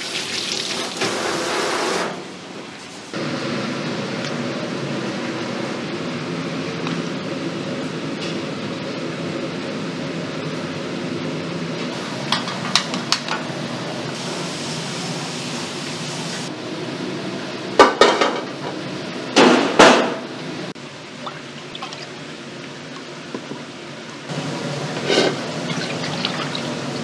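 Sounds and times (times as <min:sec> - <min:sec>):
gas burner rushing hum: 0:00.0 - 0:27.0.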